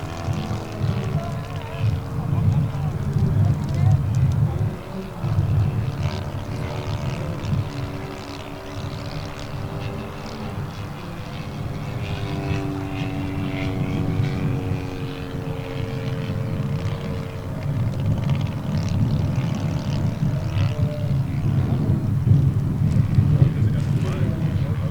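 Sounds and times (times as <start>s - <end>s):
model plane engine and propeller: 0.0s - 24.9s
wind rumble on microphone: 0.0s - 24.9s.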